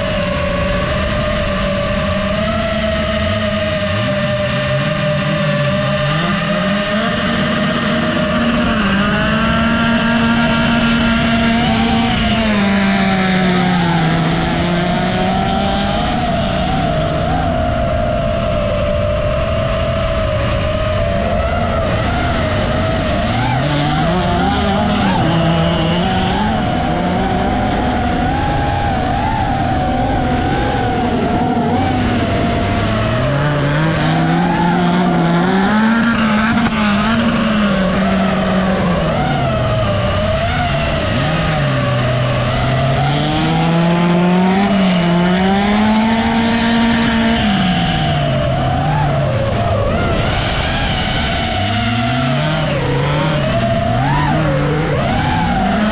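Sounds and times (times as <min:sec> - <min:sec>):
drone motors whining: 0:00.0 - 0:55.9
racing car engines revving: 0:00.0 - 0:55.9.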